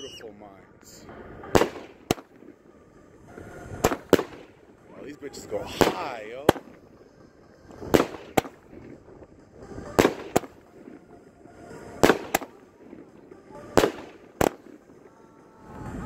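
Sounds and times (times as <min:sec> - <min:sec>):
fireworks bangs: 0:00.9 - 0:16.0.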